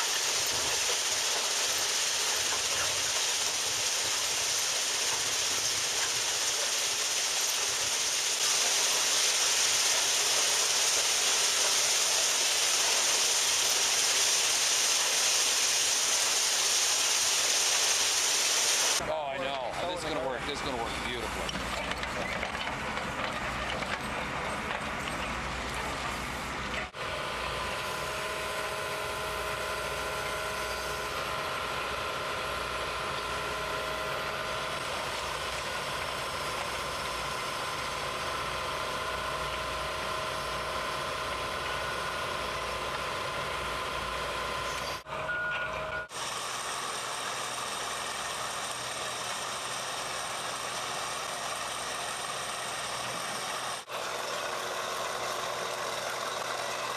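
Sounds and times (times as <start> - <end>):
heavy machinery engines running: 0.0 - 56.9.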